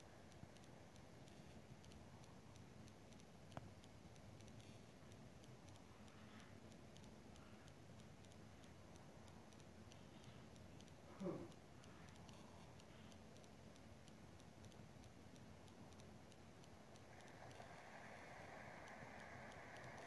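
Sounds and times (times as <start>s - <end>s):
click: 0.0s - 20.0s
faint regular ticking: 0.0s - 20.0s.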